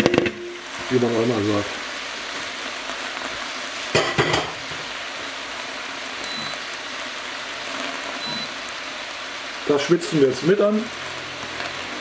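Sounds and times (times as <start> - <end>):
leeks sizzling in a pot: 0.0 - 12.0.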